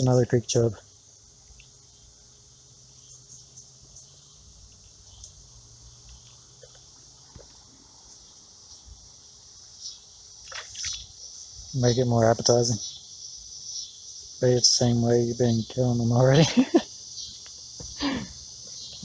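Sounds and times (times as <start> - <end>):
faint handling ticks: 0.0 - 19.0
insects chirring: 0.0 - 19.0.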